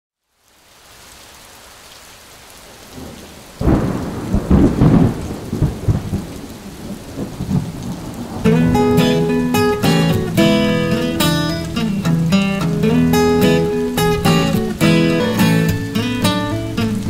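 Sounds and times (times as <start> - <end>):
steady rain: 0.2 - 17.0
thunder rumbling: 2.9 - 17.0.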